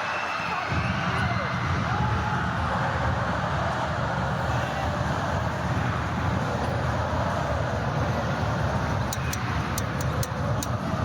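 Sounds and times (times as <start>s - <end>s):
crowd din: 0.0s - 11.0s.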